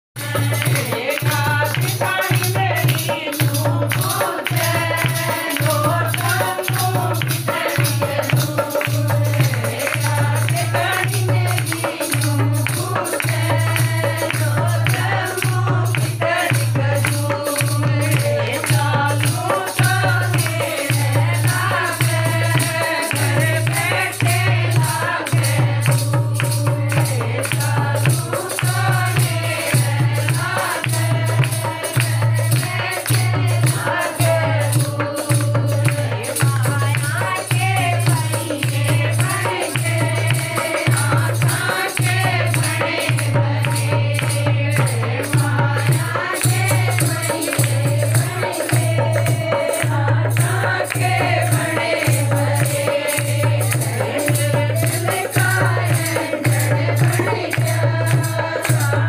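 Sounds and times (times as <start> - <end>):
devotional singing: 0.2 - 59.0
hand drum beating: 0.2 - 59.0
jingling hand percussion: 0.2 - 59.0.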